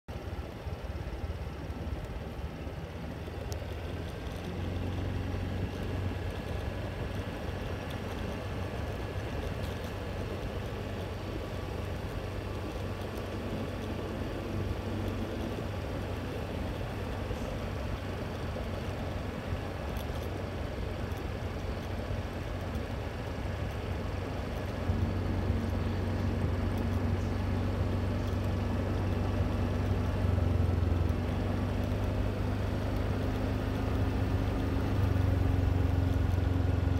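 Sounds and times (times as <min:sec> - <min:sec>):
vehicle engine and road rumble: 0:00.1 - 0:36.9.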